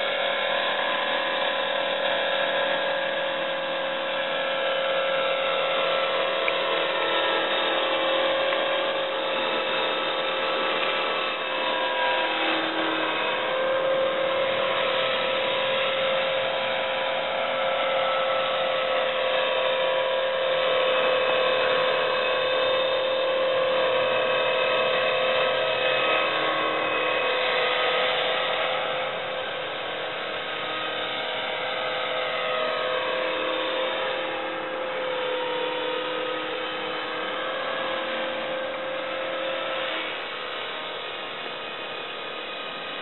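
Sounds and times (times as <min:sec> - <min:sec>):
rc helicopter motor whine: 0:00.0 - 0:43.0.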